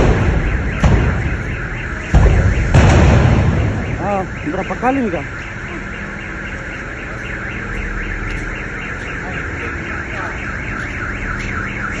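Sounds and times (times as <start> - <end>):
warbling alarm siren: 0.0 - 12.0.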